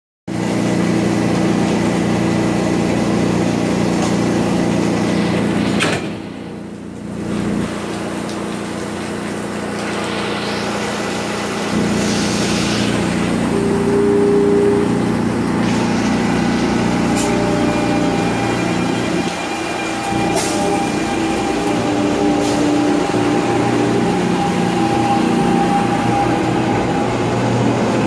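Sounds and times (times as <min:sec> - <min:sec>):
electric train humming: 0:00.3 - 0:28.0.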